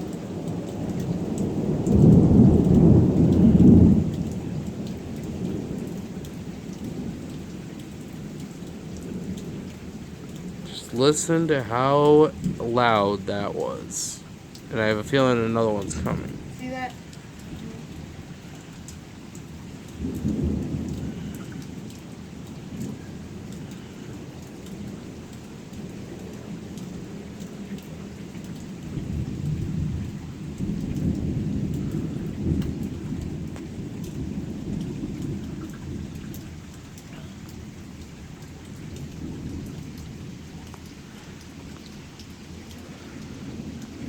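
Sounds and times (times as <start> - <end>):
steady rain: 0.0 - 44.0
thunder rumbling: 0.0 - 44.0.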